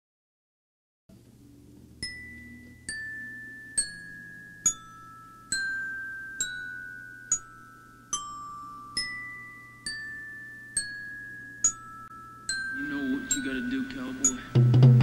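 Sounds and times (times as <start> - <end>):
faint low hum: 1.1 - 15.0
glockenspiel notes: 1.9 - 15.0.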